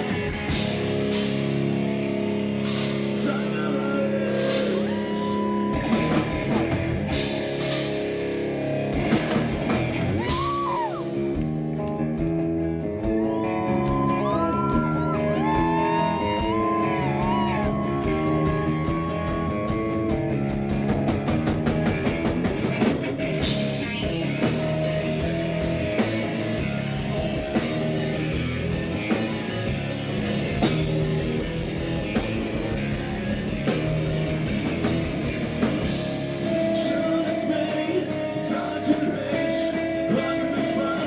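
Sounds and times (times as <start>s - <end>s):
bass guitar: 0.0s - 41.0s
distorted electric guitar: 0.0s - 41.0s
drum beat: 4.6s - 8.2s, 8.9s - 41.0s.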